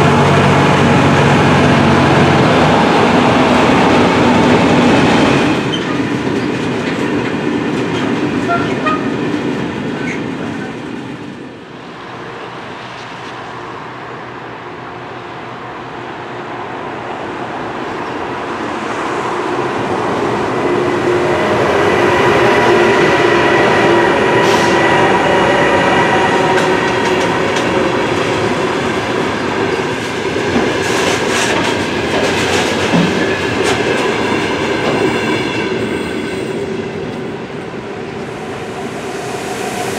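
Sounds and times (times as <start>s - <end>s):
freight train wheels rumbling: 0.0s - 39.9s
train whine: 0.0s - 39.9s.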